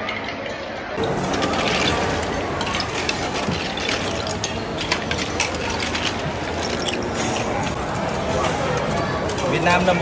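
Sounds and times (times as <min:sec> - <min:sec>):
restaurant noise: 0:00.0 - 0:10.0.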